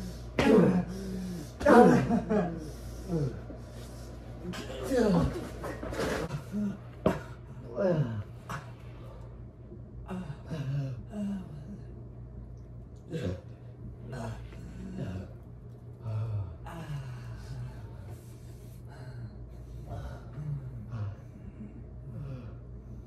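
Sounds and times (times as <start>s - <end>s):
men gasping and groaning: 0.0s - 9.2s, 10.0s - 12.0s, 13.0s - 22.8s
steady low hum: 0.0s - 23.0s.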